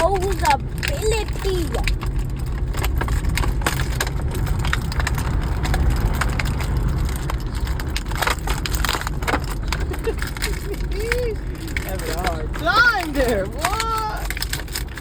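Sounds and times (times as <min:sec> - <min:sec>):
car interior rumble: 0:00.0 - 0:15.0
toy packaging crackling: 0:00.0 - 0:15.0.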